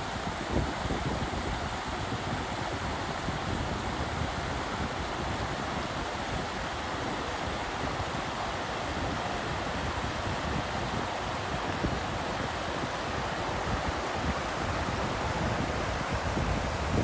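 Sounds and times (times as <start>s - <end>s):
water noise: 0.0s - 17.0s
wind: 0.0s - 17.0s
wind rumbling on microphone: 0.0s - 17.0s.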